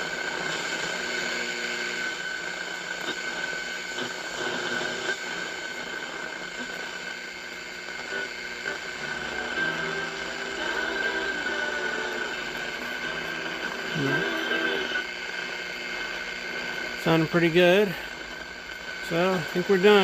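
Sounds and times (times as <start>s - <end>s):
high radio whistle: 0.0s - 20.0s
radio static hiss: 0.0s - 20.0s.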